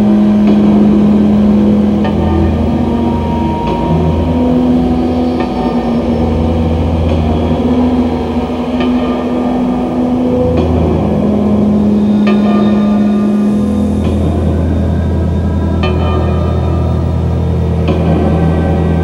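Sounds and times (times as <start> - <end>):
low electronic drone: 0.0 - 19.0.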